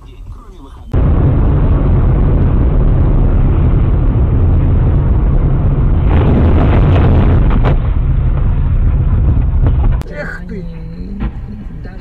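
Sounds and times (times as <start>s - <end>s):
car engine and tyres rumble: 0.0s - 12.0s.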